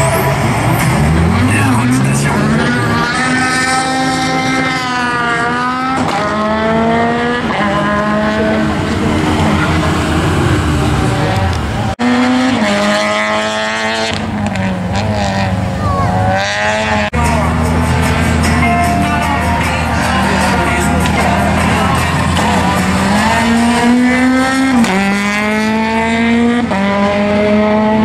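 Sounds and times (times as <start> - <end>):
racing car engine shifting gears: 0.0 - 28.0.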